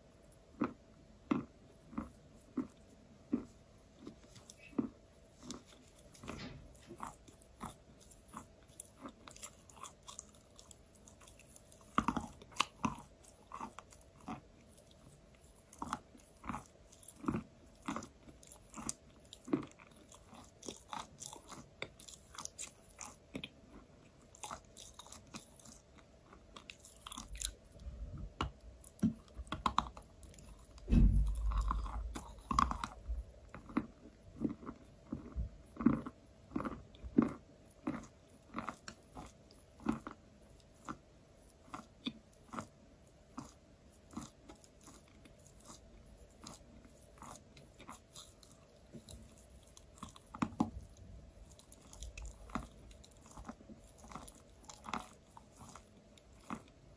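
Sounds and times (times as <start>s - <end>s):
chewing chalk crunches: 0.3s - 56.9s.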